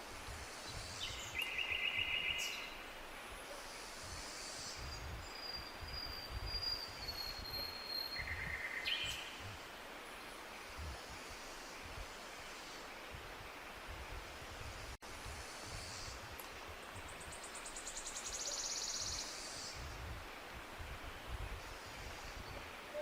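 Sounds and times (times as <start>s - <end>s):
background hiss: 0.0s - 23.0s
songbirds singing: 0.4s - 14.8s, 15.5s - 23.0s.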